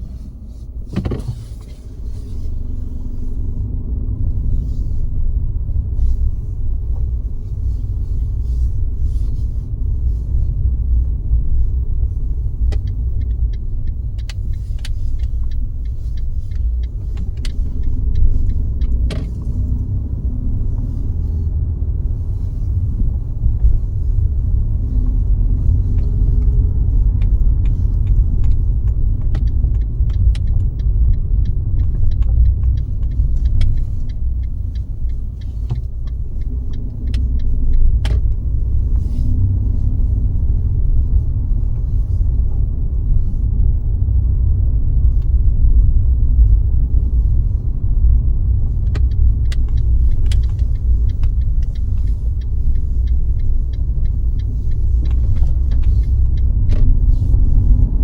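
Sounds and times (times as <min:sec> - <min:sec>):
car road and engine rumble: 0:00.0 - 0:58.0
light irregular ticks and clicks: 0:00.0 - 0:58.0.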